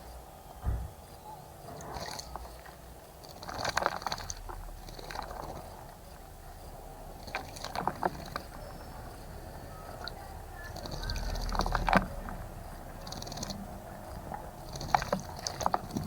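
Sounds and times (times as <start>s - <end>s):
birds splashing in water: 2.0s - 16.0s.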